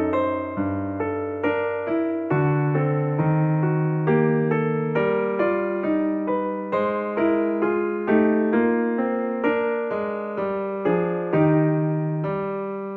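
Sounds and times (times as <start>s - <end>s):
electric piano melody: 0.0s - 12.9s.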